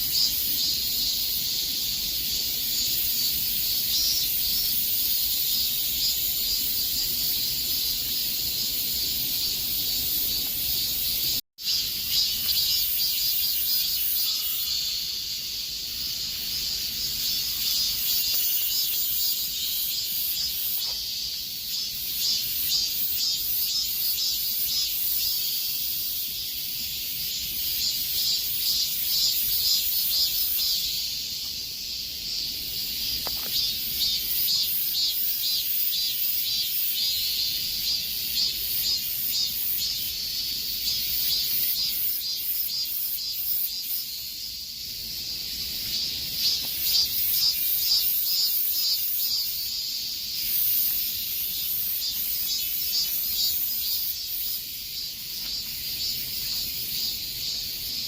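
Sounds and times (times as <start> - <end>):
cicadas buzzing: 0.0 - 58.0.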